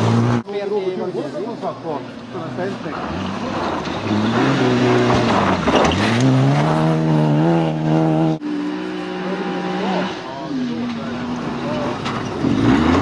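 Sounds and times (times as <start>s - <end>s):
rally car engine revving: 0.0s - 0.5s, 2.2s - 13.0s.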